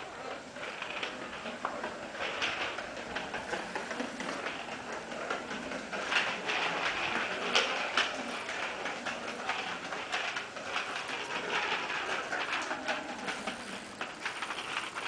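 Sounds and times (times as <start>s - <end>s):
child's bicycle rattling on tiles: 0.0s - 15.0s.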